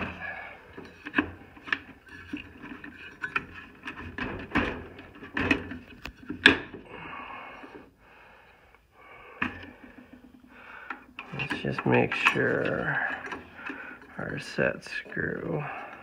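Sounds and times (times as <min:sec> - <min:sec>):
fan wheel clicking and scraping: 0:00.0 - 0:07.8, 0:09.3 - 0:16.0.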